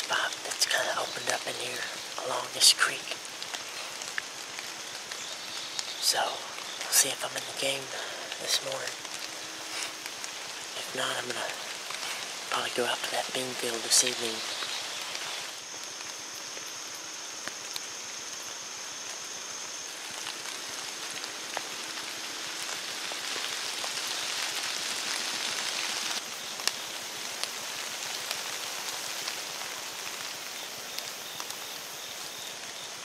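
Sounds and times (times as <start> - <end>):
light rain pattering: 0.0 - 33.0
water dripping off leaves: 0.0 - 33.0.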